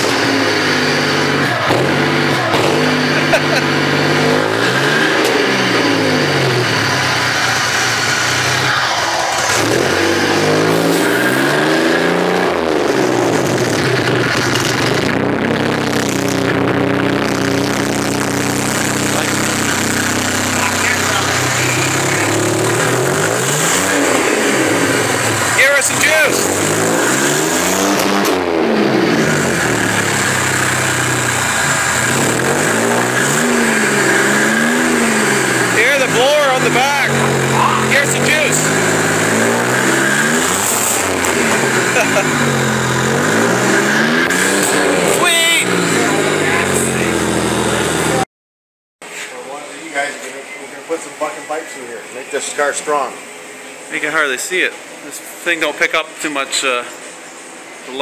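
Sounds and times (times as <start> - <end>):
car engine revving: 0.0 - 48.2.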